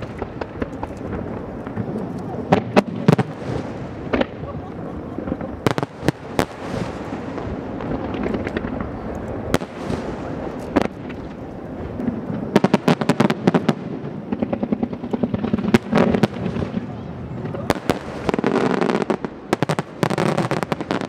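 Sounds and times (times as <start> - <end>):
firework rumble and crackle: 0.0 - 21.0.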